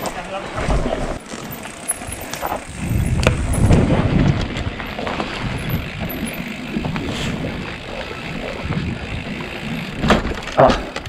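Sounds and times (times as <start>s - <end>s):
bike rattling: 0.0s - 11.0s
bike tyres on dirt: 0.0s - 11.0s.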